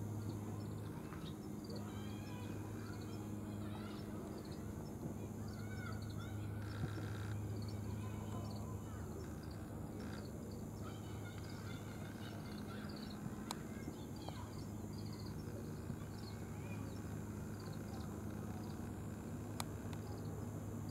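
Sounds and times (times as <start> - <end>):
small birds twittering: 0.0 - 20.9
steady low hum: 0.0 - 20.9.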